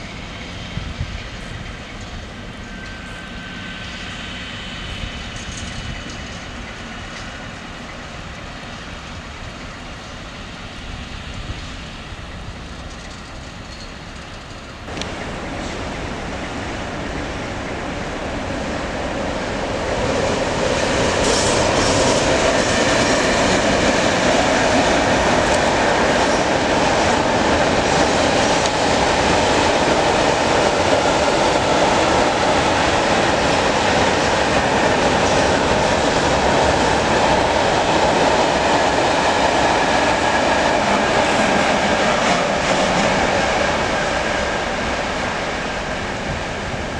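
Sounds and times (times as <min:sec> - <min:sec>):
diesel locomotive passing: 0:00.0 - 0:46.9.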